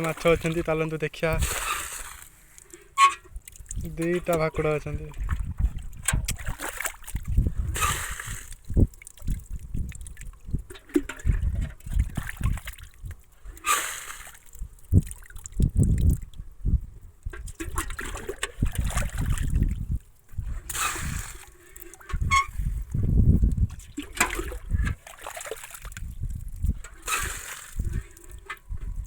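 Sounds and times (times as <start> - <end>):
shallow water splashing: 0.0 - 16.4, 17.4 - 29.0.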